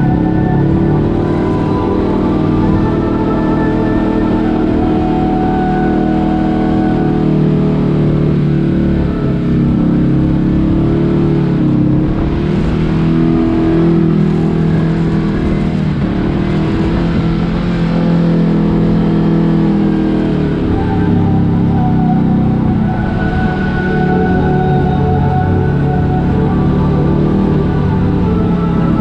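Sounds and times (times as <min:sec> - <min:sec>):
engine revving under throttle: 0:00.0 - 0:29.0.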